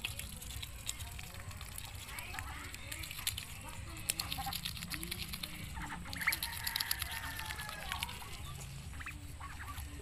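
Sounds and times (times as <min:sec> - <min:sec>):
duck bill clicking on leaves: 0:00.0 - 0:10.0.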